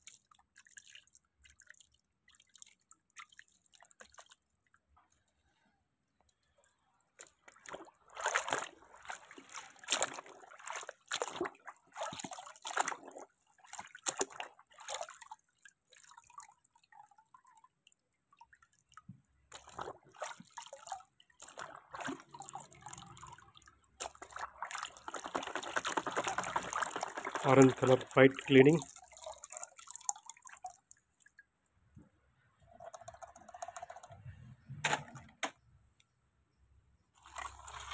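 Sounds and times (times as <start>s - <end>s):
water splashing and sloshing: 0.0s - 5.4s, 6.2s - 35.6s, 37.2s - 37.9s.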